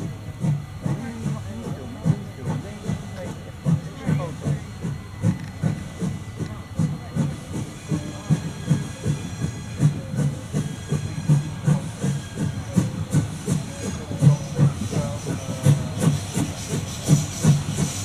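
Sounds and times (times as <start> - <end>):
steady hiss of steam: 0.0 - 18.0
steam locomotive exhaust chuffing: 0.0 - 18.0.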